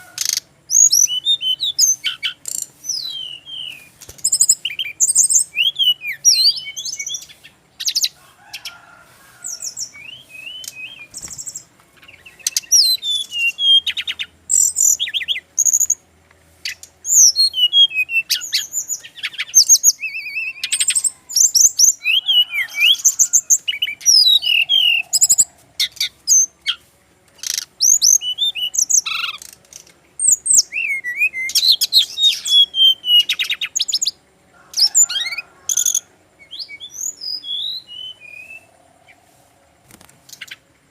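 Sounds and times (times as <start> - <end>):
bird singing chirps and whistles: 0.0 - 8.7, 9.4 - 16.0, 16.6 - 26.8, 27.4 - 34.2, 34.8 - 39.2.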